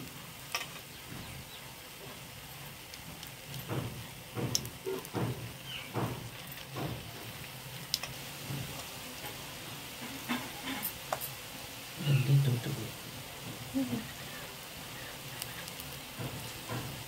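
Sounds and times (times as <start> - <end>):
deep-frying sizzle: 0.0 - 17.0
sharp oil crackles: 0.0 - 17.0.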